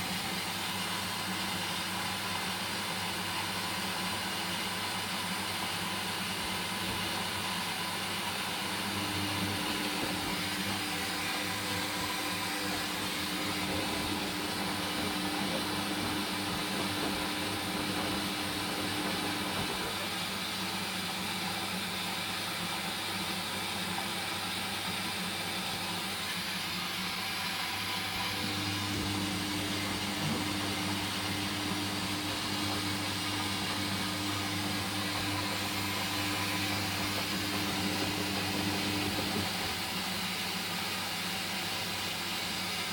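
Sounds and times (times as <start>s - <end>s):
washing machine hum: 0.0s - 42.9s
washing machine whirring: 0.0s - 42.9s.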